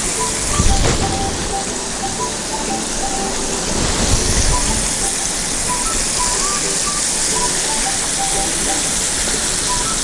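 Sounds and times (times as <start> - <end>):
fish deep-frying in hot oil: 0.0 - 10.0.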